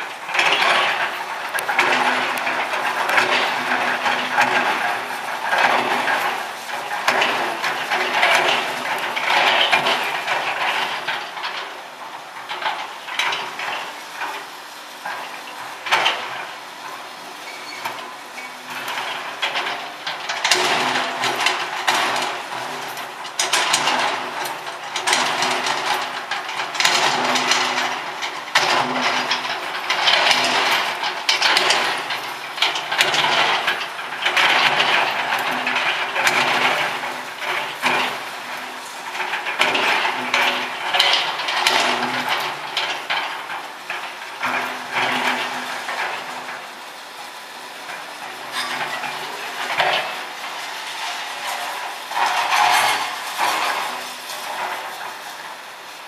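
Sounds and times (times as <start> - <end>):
excavator engine under load: 0.0 - 56.0
metal debris clanking and scraping: 0.0 - 56.0.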